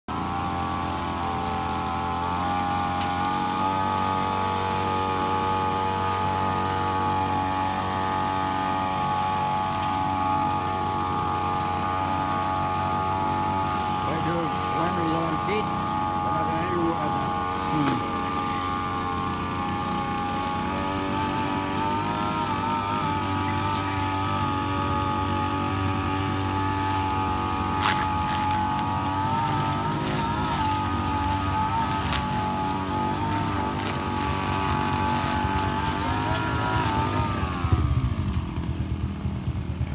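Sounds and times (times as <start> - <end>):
small engine buzzing whine: 0.0 - 39.9.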